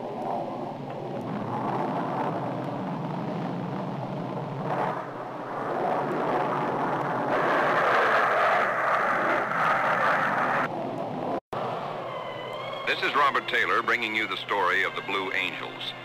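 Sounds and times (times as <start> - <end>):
jet engines flying past: 0.0 - 16.0.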